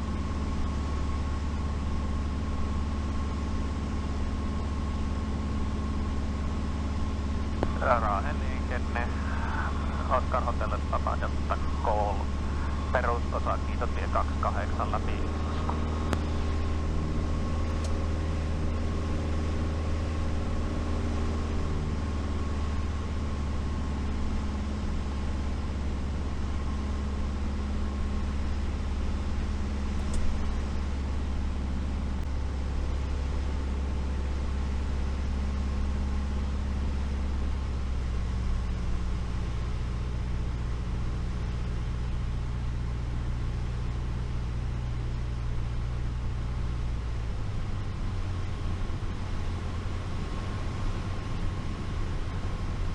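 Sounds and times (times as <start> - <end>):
propeller aircraft engine droning: 0.0 - 52.9.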